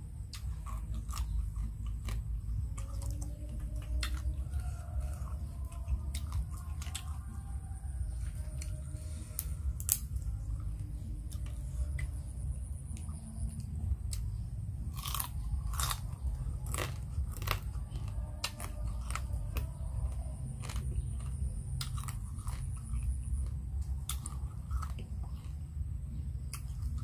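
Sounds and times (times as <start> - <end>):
chewing with crunches: 0.0 - 27.0.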